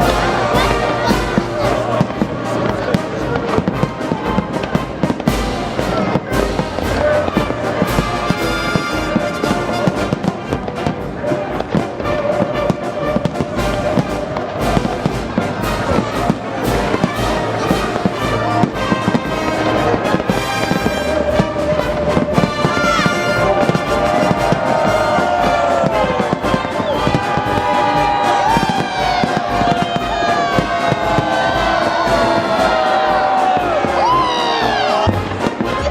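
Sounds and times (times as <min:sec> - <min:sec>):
fireworks bangs: 0:00.0 - 0:35.9
music playing: 0:00.0 - 0:35.9
whistling fireworks: 0:00.0 - 0:35.9.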